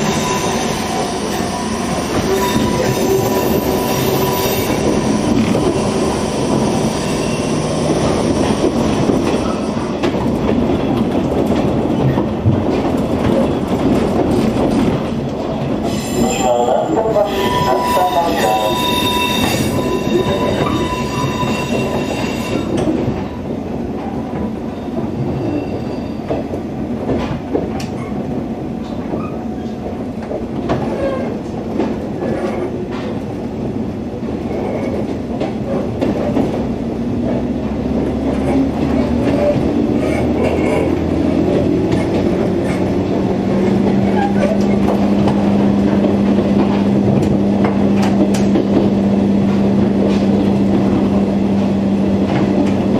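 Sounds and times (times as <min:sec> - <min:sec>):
train rumble with wheel clatter: 0:00.0 - 0:52.9.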